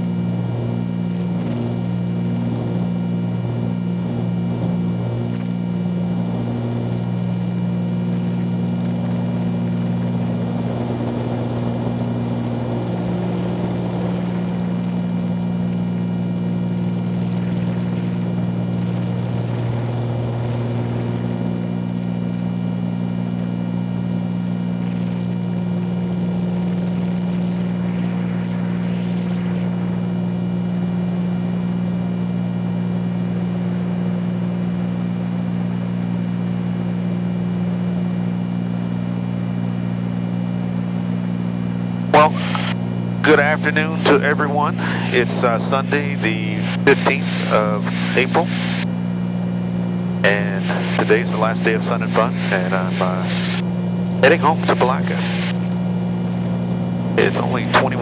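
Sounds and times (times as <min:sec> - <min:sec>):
aircraft engines droning in cabin: 0:00.0 - 0:58.0.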